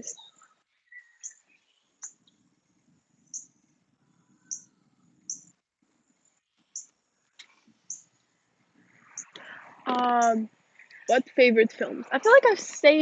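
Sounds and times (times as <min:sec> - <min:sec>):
bird chirping: 0:00.0 - 0:05.6, 0:06.4 - 0:12.6.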